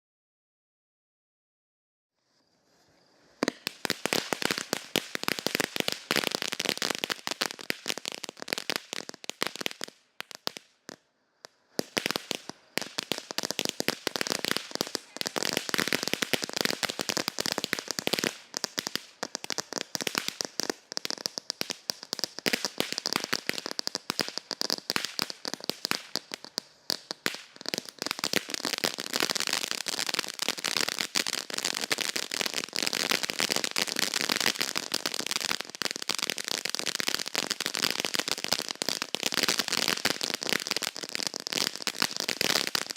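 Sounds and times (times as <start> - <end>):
firework fountain crackling: 2.6 - 42.9.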